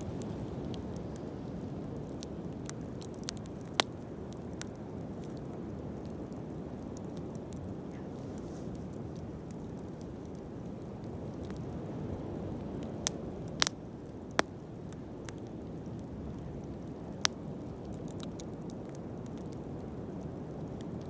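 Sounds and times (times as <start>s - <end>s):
bonfire burning: 0.0s - 21.0s
burning wood popping: 0.0s - 21.0s.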